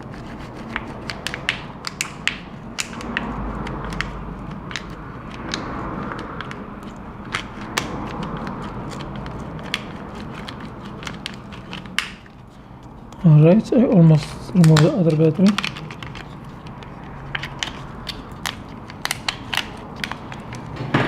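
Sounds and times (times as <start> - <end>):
battery being pried loose: 0.7 - 13.0, 14.6 - 20.8.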